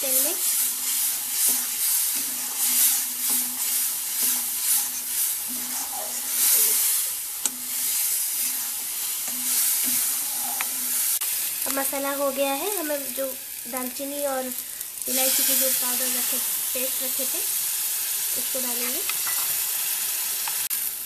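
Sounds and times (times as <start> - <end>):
spatula stirring in pan: 0.0 - 20.7
onions sizzling in hot oil: 0.0 - 21.0.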